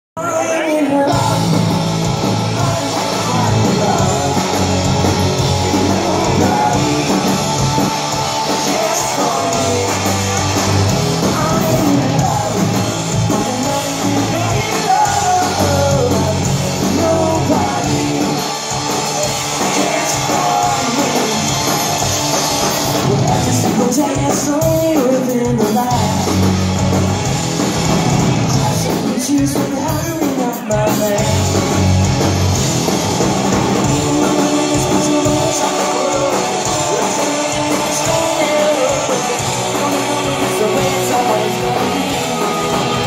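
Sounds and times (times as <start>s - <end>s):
sung vocals: 0.2s - 22.1s, 22.9s - 26.6s, 28.4s - 32.1s, 33.8s - 43.0s
live rock band playing: 0.2s - 43.0s.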